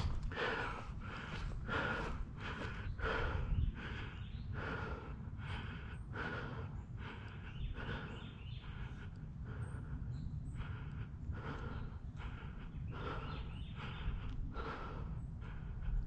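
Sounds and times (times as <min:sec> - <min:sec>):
person breathing hard: 0:00.0 - 0:16.0
steady low rumble: 0:00.0 - 0:16.0.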